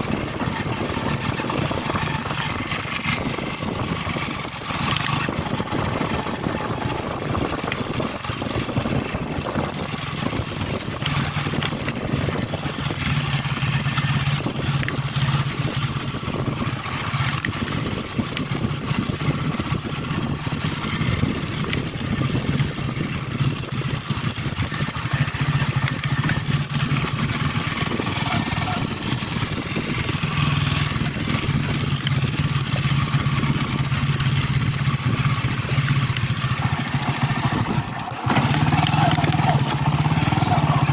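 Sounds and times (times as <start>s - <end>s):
vehicle engine running: 0.0s - 40.9s
wind and road noise: 0.0s - 40.9s.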